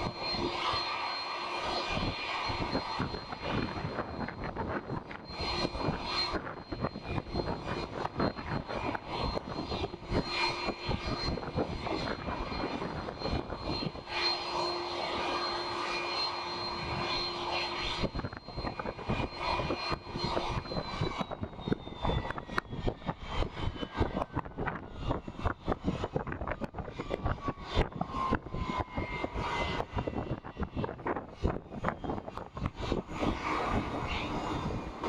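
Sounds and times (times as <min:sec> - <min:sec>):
jet engines whining: 0:00.0 - 0:35.0
wind buffeting microphone: 0:01.9 - 0:14.1, 0:17.8 - 0:35.0.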